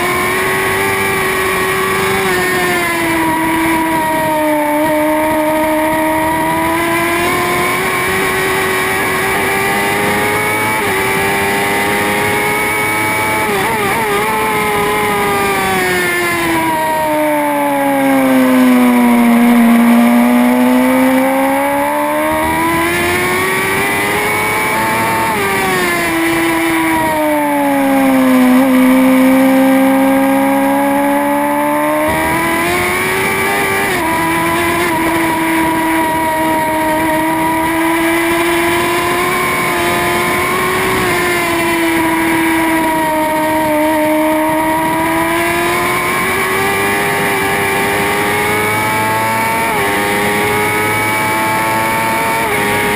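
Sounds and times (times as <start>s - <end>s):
racing motorcycle engine revving: 0.0s - 52.9s.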